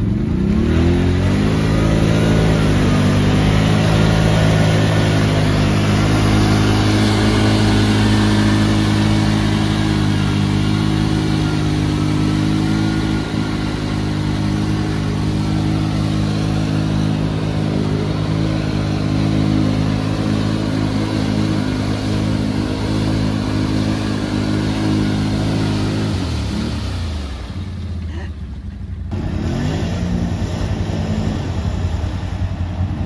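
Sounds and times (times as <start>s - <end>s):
atv engine running: 0.0s - 33.0s
wheels spinning in mud: 0.0s - 33.0s.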